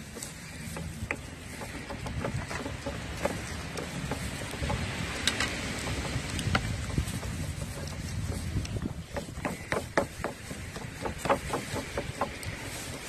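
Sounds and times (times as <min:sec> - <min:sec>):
pestle grinding in mortar: 0:00.0 - 0:13.0
pestle knocking against bowl: 0:00.7 - 0:13.0.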